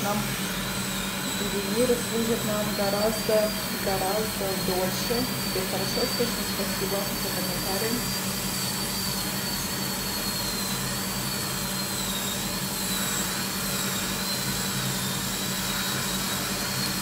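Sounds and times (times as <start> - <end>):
dental drill whine: 0.0 - 17.0.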